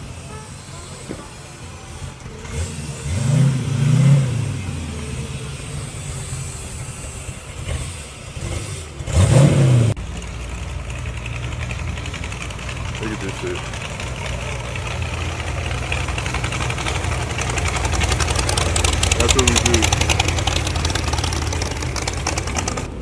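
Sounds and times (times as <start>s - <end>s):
car engine revving: 0.0s - 23.0s
engine idling: 0.0s - 23.0s.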